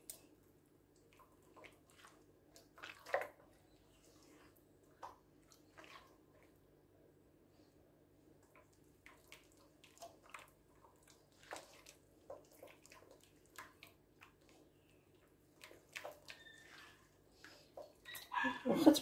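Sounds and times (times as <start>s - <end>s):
hand squelching batter: 0.0s - 18.8s.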